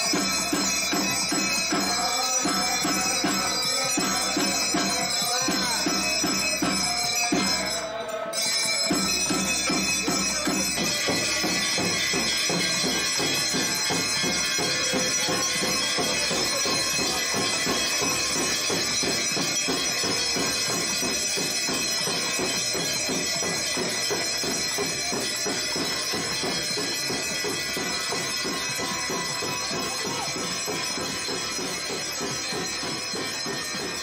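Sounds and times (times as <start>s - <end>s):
handbells ringing: 0.0s - 34.0s.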